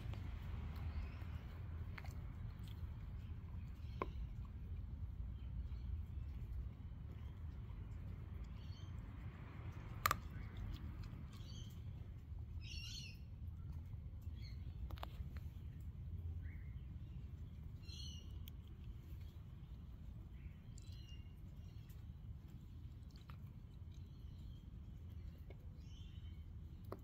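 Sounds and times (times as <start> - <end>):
puppy gnawing wooden stick: 0.0 - 27.0.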